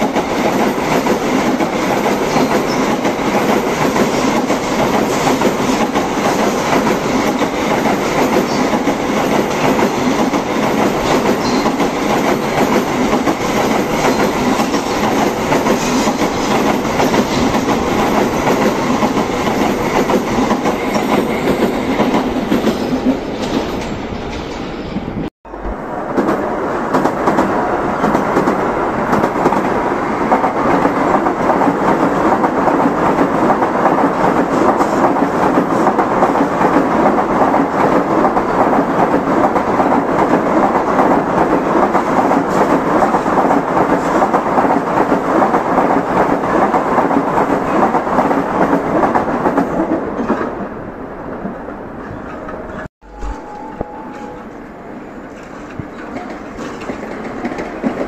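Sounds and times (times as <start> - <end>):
high-speed train passing: 0.0 - 58.0.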